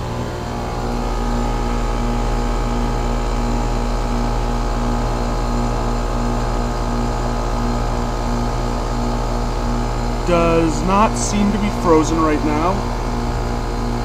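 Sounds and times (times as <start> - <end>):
heat pump compressor and fan hum: 0.0 - 14.0.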